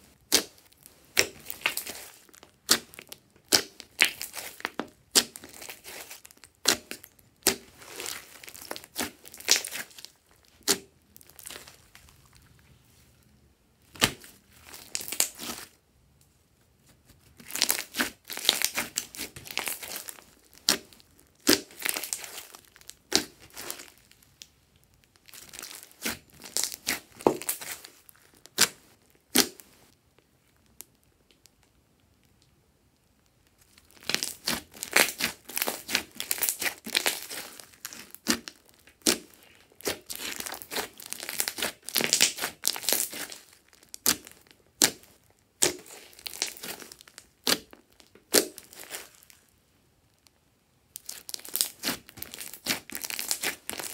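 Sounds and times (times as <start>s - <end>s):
slime squeezed crackling: 0.2s - 12.8s, 13.8s - 15.8s, 17.2s - 30.0s, 33.5s - 49.5s, 50.9s - 53.9s.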